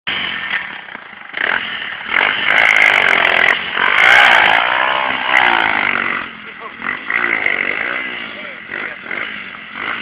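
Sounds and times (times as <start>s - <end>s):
motorcycle engine revving: 0.1s - 10.0s.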